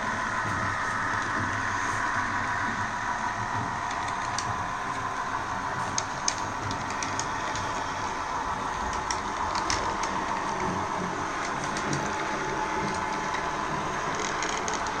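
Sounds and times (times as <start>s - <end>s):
model train motor hum: 0.0s - 15.0s.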